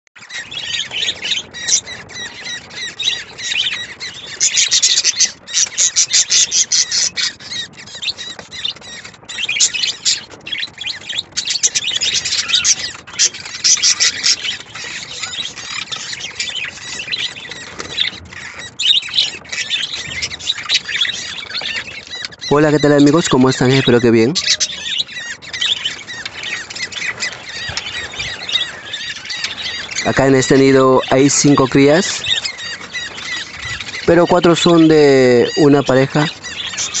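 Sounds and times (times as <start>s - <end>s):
budgerigars chirping: 0.2s - 37.0s.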